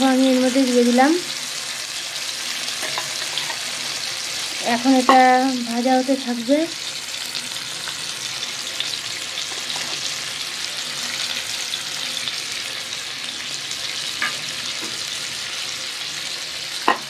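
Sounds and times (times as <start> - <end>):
egg sizzling in oil: 0.0 - 17.0.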